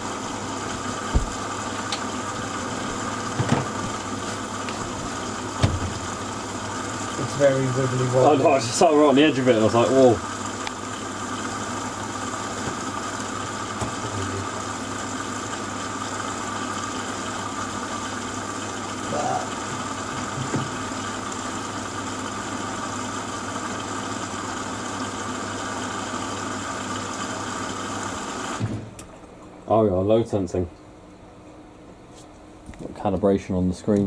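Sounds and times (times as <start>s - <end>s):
washer dryer humming: 0.0s - 34.0s.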